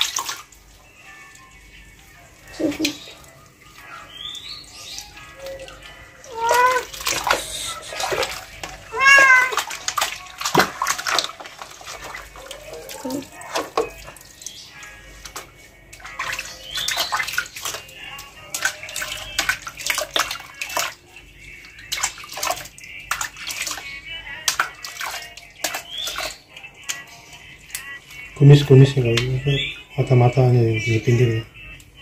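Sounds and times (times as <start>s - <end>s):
water splashing in a plastic basin: 0.0s - 31.5s.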